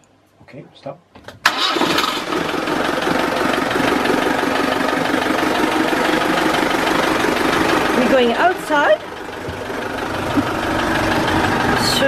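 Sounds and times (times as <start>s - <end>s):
diesel engine idling: 1.5s - 12.0s.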